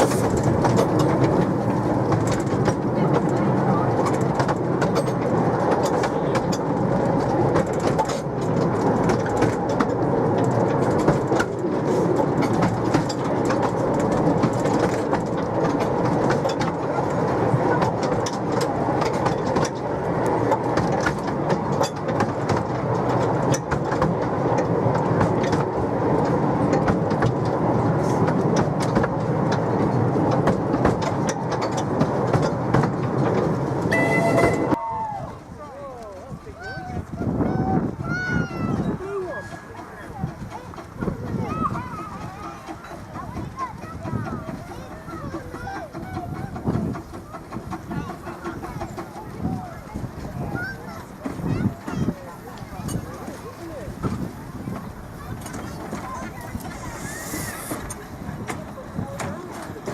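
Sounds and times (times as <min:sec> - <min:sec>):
train wheels clattering on rails: 0:00.0 - 0:34.8, 0:36.6 - 0:59.9.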